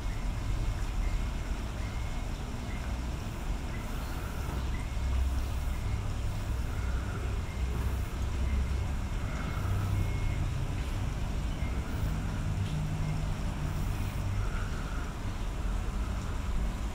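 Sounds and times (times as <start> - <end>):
faint constant hum: 0.0 - 16.9.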